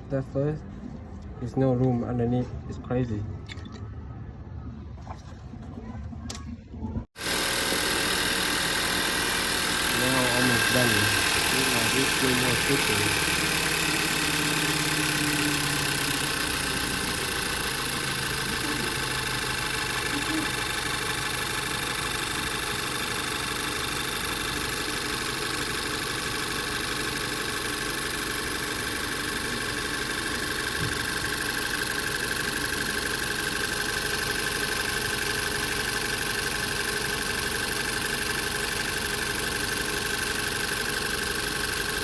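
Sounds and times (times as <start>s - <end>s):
car engine idling: 7.2s - 42.0s.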